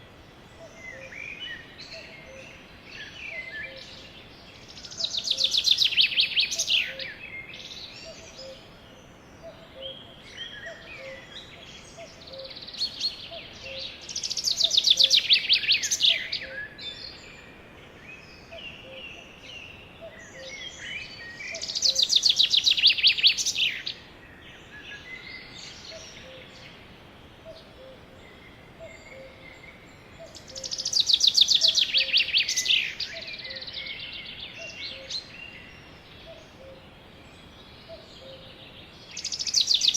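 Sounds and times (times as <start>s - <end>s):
soft sparrow chirps: 0.6s - 17.2s, 18.4s - 24.0s, 28.8s - 36.8s, 37.5s - 39.9s
sparrow trilled song: 0.6s - 17.2s, 18.4s - 24.0s, 27.4s - 36.8s, 37.4s - 39.9s.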